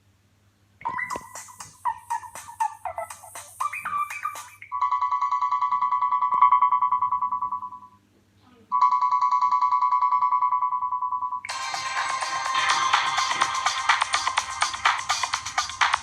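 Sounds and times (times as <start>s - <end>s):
ringtone tune notes: 0.8s - 7.9s, 8.8s - 16.0s
pulsing electronic ringtone trill: 0.8s - 8.0s, 8.8s - 16.0s.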